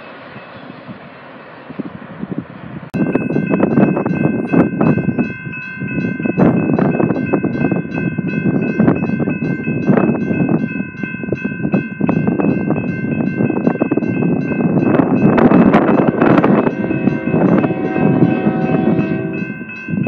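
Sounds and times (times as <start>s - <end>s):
crossing bell ringing rapidly: 3.0s - 20.0s.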